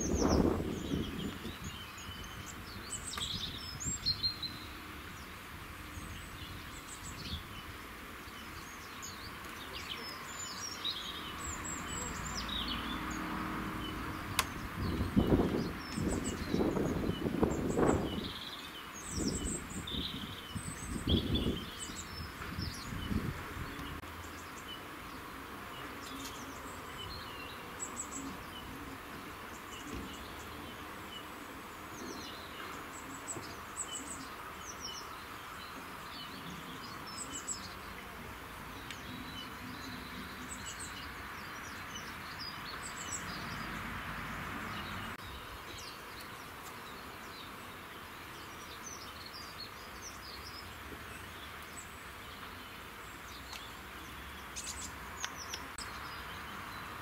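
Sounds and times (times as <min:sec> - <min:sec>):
background hiss: 0:00.0 - 0:57.0
small birds chirping: 0:00.0 - 0:57.0.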